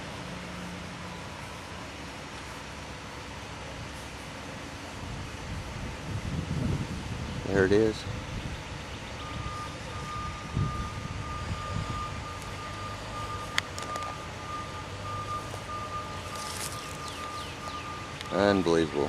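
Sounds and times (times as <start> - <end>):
truck reversing alarm beeping: 0.0 - 7.2, 8.1 - 19.0
engine rumbling: 0.0 - 19.0.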